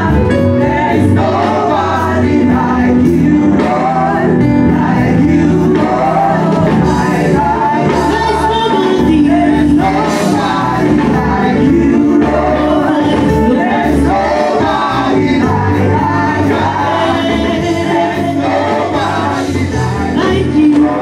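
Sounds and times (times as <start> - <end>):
band playing: 0.0 - 21.0
gospel choir singing: 0.0 - 21.0.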